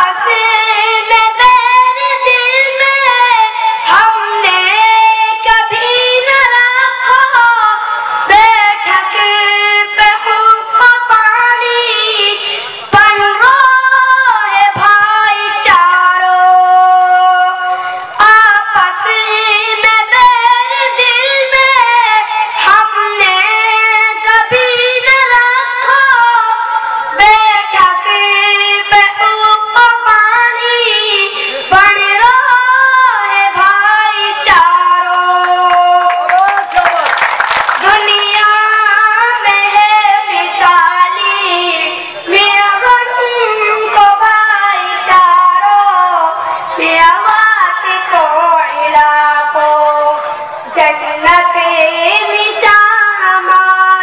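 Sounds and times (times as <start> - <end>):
boy singing into a microphone: 0.0 - 36.7, 37.8 - 54.0.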